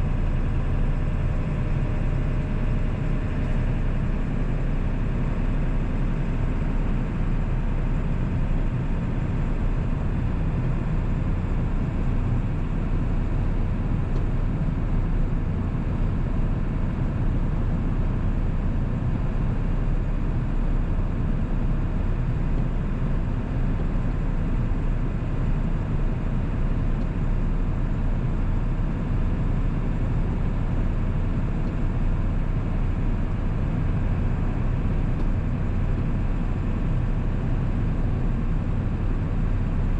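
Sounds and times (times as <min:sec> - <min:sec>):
diesel engine low rumble: 0:00.0 - 0:39.9.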